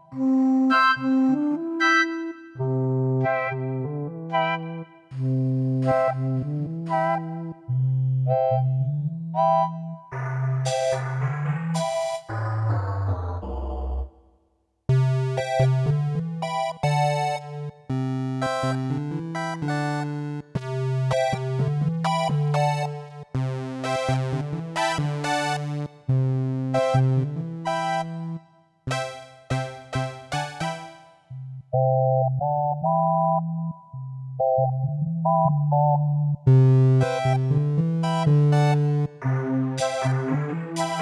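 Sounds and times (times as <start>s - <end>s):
electronic keyboard chords and melody: 0.0s - 14.3s, 14.9s - 41.0s.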